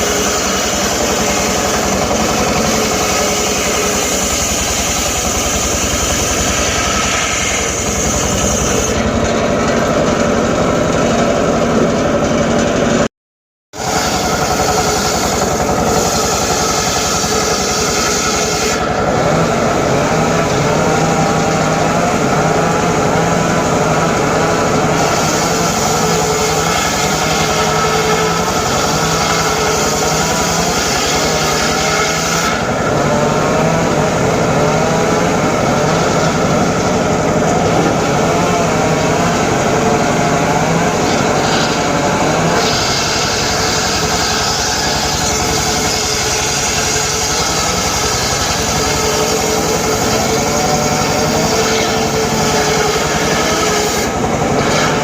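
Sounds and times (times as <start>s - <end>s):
circular saw cutting wood: 0.0s - 13.1s, 13.8s - 55.0s.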